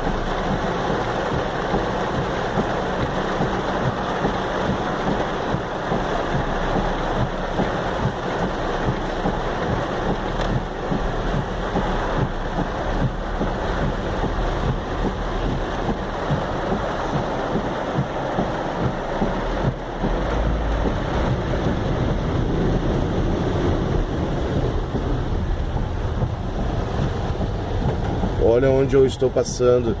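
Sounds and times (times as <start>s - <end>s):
torrential rain pouring: 0.0s - 30.0s.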